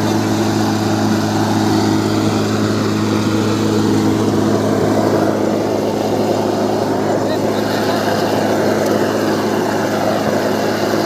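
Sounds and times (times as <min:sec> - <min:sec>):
machine humming steadily: 0:00.0 - 0:11.0.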